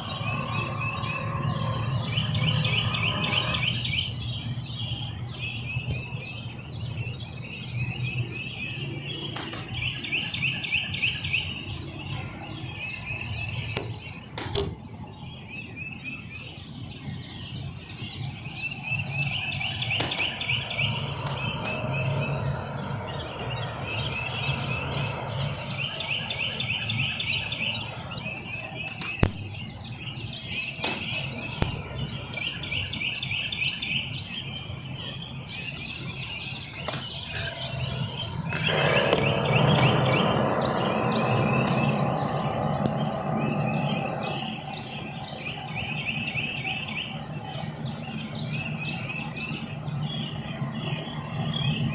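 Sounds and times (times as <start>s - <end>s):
birds singing trilled phrase: 0.0s - 14.4s, 15.0s - 51.9s
steady low hum: 0.0s - 51.9s.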